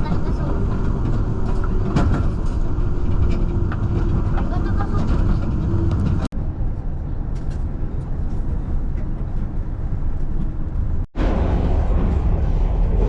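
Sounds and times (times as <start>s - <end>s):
train rumble on board: 0.0s - 13.0s.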